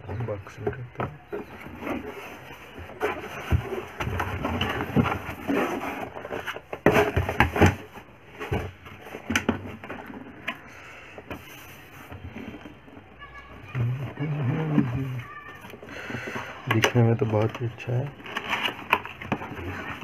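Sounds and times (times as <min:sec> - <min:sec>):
box contents sliding and knocking: 0:00.0 - 0:20.0
cardboard flaps rustling and scraping: 0:00.0 - 0:20.0.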